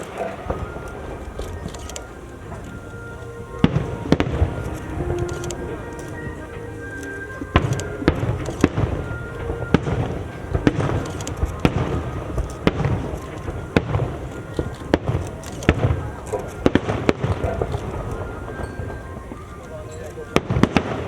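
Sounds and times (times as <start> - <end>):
fireworks bursting bangs: 0.0 - 21.0.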